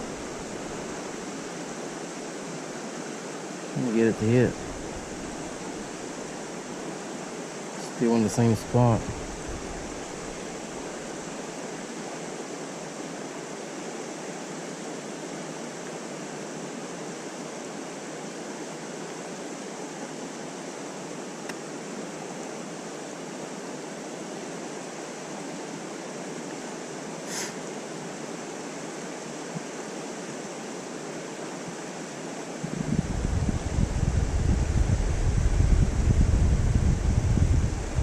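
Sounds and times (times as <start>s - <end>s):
creek water flowing: 0.0s - 34.4s.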